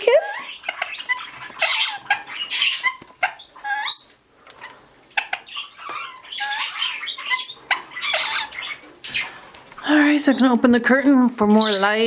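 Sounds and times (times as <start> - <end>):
parrots chirping and chattering: 0.0 - 12.0.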